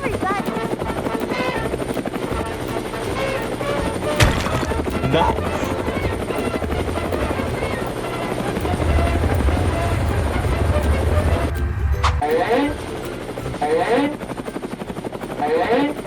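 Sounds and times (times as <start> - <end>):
helicopter rotor blades chopping: 0.0 - 16.0.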